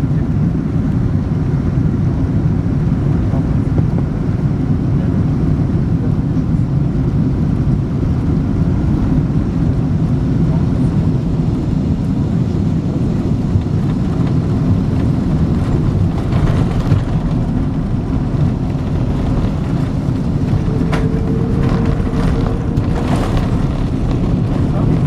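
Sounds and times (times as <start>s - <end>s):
airplane cabin low rumble: 0.0s - 25.0s.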